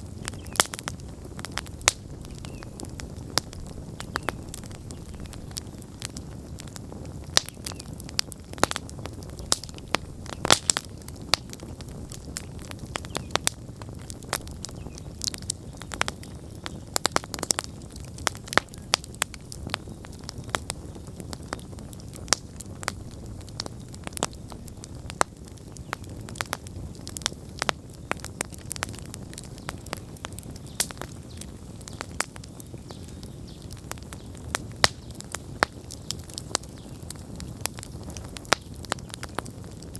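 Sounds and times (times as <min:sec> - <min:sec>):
campfire rumbling: 0:00.0 - 0:39.9
fire crackling and popping: 0:00.0 - 0:39.9.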